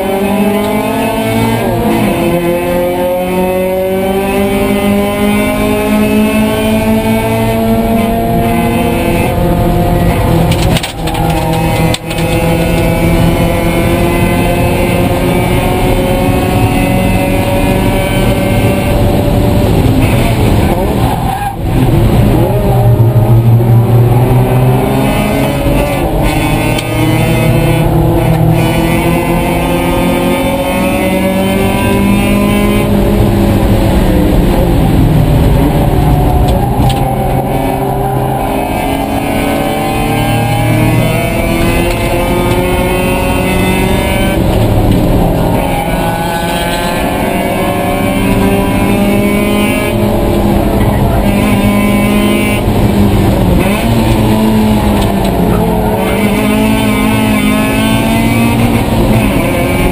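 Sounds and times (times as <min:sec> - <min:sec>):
race car engine driven hard: 0:00.0 - 0:59.9.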